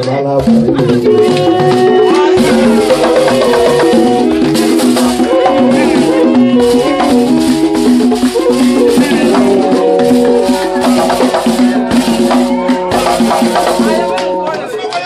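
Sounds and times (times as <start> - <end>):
shaken rattle clicking beat: 0.0 - 14.2
man singing through a microphone: 0.0 - 14.8.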